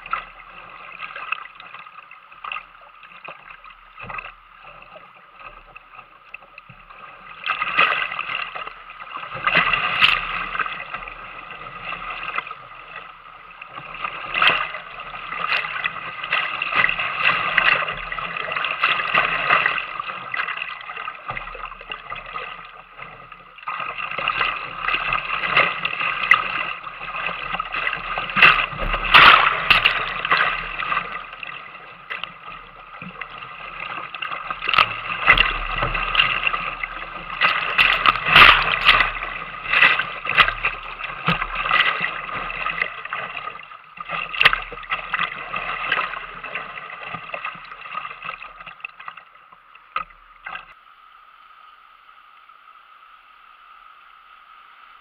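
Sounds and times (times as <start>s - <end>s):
paddle splashing: 0.0s - 50.8s.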